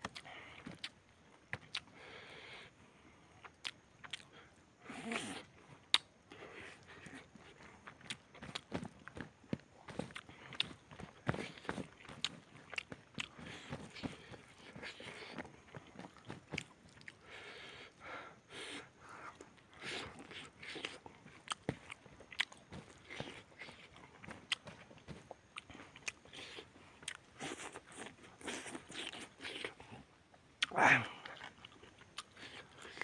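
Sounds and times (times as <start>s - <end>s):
man chewing and lip smacking: 0.0s - 33.0s.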